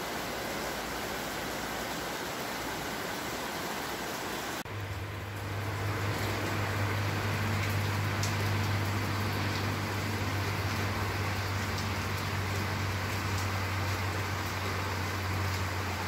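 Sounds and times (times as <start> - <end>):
heavy rain pouring: 0.0 - 16.0
raindrops ticking on surfaces: 0.0 - 16.0.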